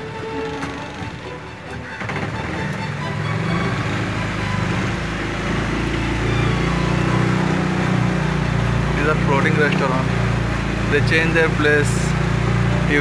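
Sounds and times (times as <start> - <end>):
boat engine drone: 0.0 - 13.0
water noise: 0.0 - 13.0.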